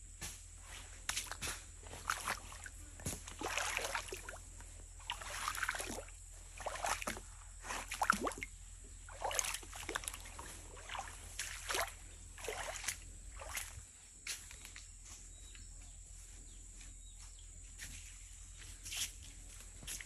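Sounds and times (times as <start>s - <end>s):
footsteps sloshing through water: 0.6s - 15.4s, 16.2s - 20.0s.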